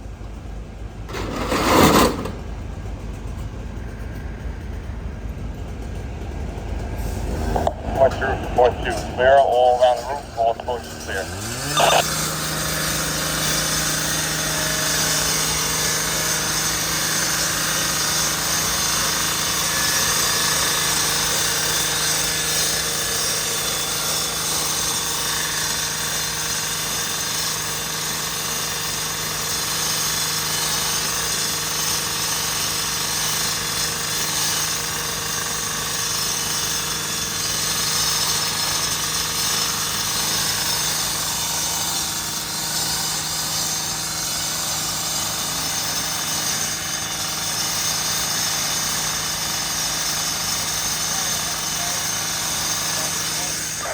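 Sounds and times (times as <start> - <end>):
large engine running: 0.0 - 53.9.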